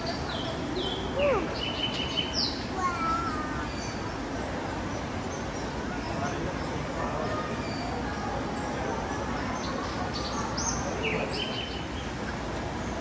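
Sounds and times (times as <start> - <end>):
birds calling: 0.0 - 13.0
murmur of visitors: 0.0 - 13.0.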